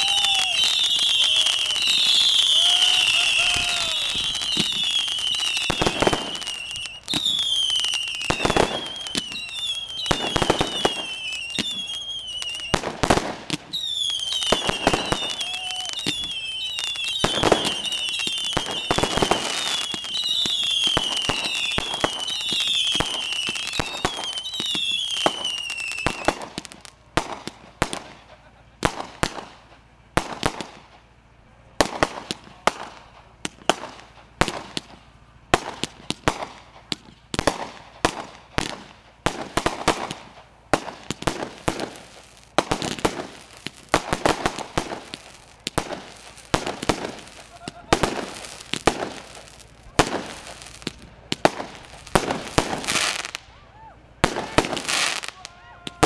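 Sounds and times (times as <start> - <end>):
firework bangs and pops: 0.0 - 56.0
firework cracks: 0.0 - 56.0
whistling fireworks: 0.0 - 56.0.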